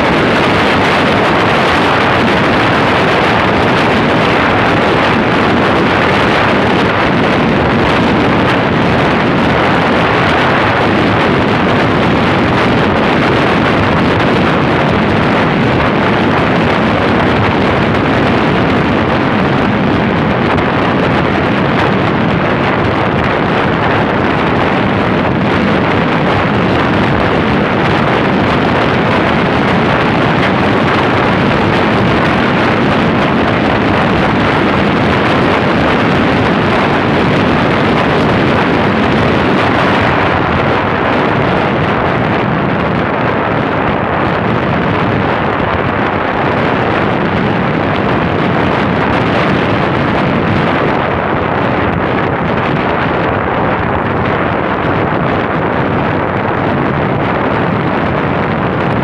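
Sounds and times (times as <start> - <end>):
motorcycle engine and road noise: 0.0 - 59.0
wind rush on microphone: 0.0 - 59.0.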